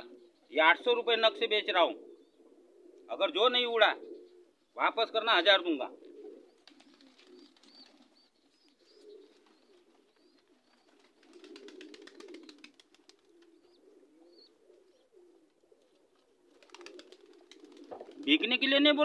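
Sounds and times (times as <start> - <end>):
pigeons cooing: 0.0 - 18.7.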